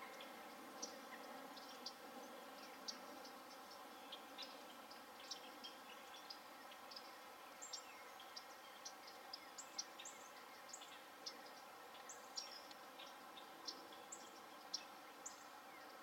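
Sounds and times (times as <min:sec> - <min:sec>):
low steady hiss: 0:00.0 - 0:16.0
small birds chirping: 0:00.0 - 0:16.0.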